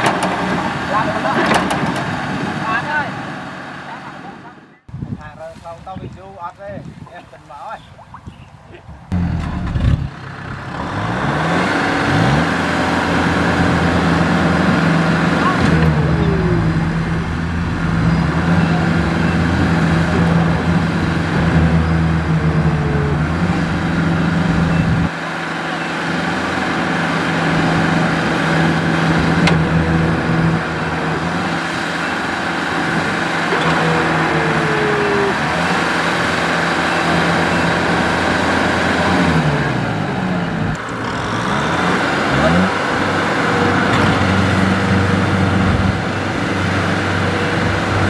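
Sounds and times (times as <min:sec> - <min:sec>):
combine harvester running: 0:00.0 - 0:04.7, 0:09.2 - 0:48.0
tractor diesel engine: 0:00.0 - 0:05.6, 0:09.1 - 0:48.0.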